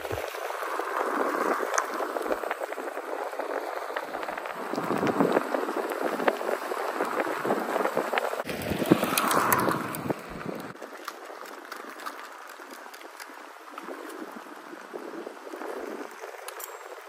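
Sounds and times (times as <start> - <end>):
tyres rolling over gravel: 0.0 - 17.0.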